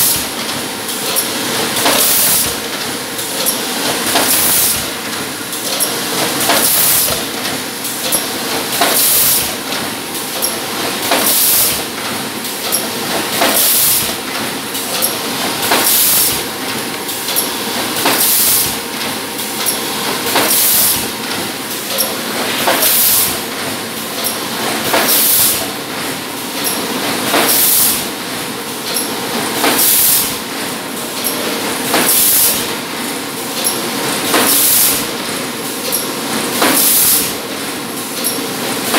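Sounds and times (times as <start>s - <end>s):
machine running noise: 0.0s - 38.9s.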